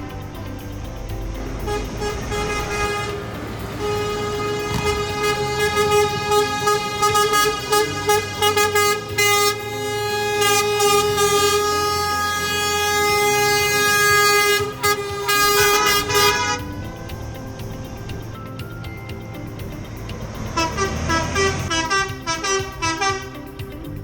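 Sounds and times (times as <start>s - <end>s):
horns honking: 0.0s - 18.0s, 20.4s - 24.0s.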